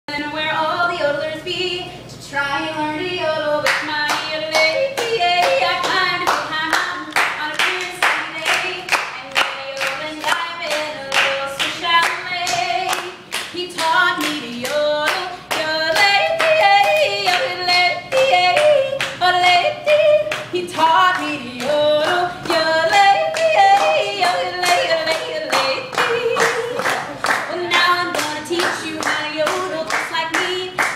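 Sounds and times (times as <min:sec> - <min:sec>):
group clapping along: 0:03.6 - 0:30.9.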